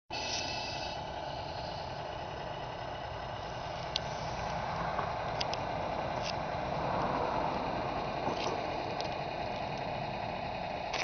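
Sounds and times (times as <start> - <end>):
model truck running: 0.1 - 11.0.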